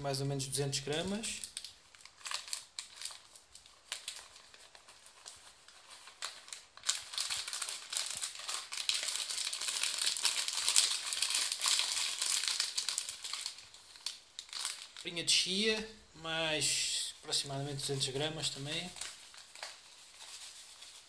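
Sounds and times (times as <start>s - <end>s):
plastic bag crinkling: 0.8s - 15.8s, 17.3s - 21.0s.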